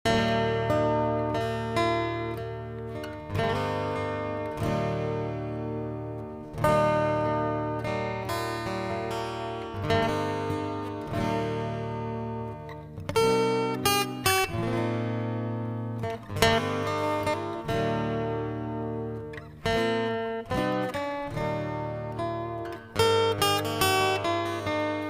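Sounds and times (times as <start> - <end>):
acoustic guitar strumming: 0.1 - 25.0.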